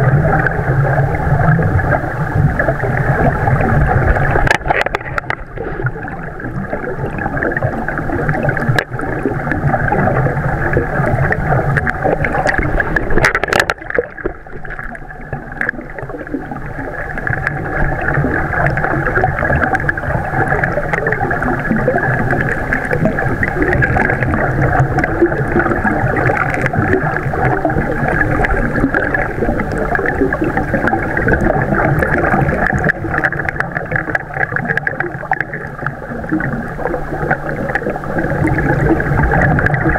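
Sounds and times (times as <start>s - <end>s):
underwater rushing hum: 0.0s - 39.9s
water gurgling: 0.0s - 39.9s.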